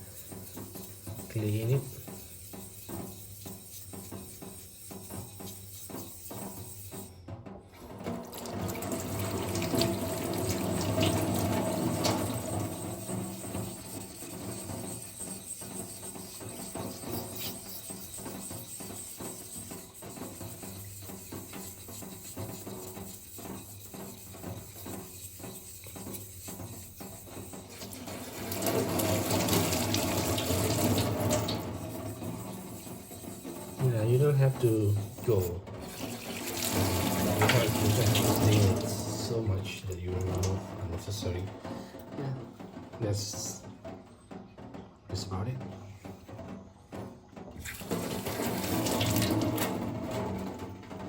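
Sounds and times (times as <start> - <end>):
tap water running over stone: 0.0 - 7.1, 7.8 - 41.4, 47.6 - 50.7.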